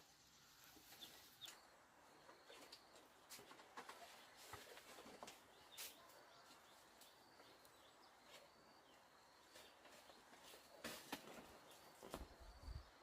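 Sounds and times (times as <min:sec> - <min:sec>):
faint rural ambience: 0:00.0 - 0:13.0
small birds chirping: 0:00.0 - 0:13.0.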